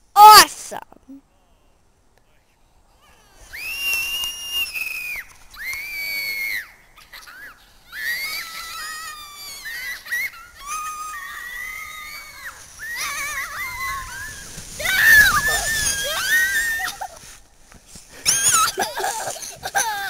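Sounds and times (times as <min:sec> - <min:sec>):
children screaming and squealing: 0:03.0 - 0:17.4, 0:18.1 - 0:20.0
snow tube sliding rush: 0:03.1 - 0:20.0.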